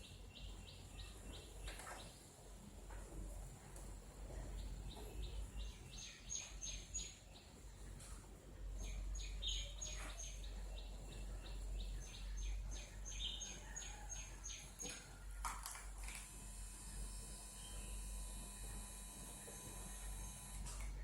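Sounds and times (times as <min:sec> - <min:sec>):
steady low hum: 0:02.3 - 0:13.6, 0:14.3 - 0:21.0.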